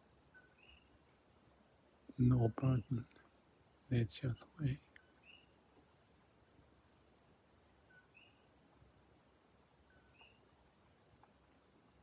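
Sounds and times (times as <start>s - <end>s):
crickets trilling: 0.0s - 12.0s
faint cricket chirp: 0.0s - 12.0s.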